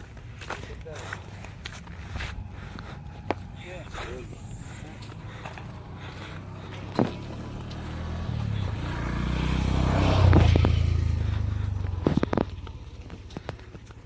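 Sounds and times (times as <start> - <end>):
vehicle engine passing: 0.9 - 14.0.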